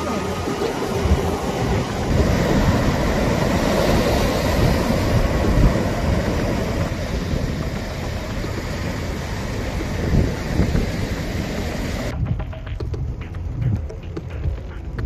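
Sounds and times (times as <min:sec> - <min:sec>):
surf breaking on rocks: 0:00.0 - 0:12.1
wind on microphone: 0:00.0 - 0:15.0.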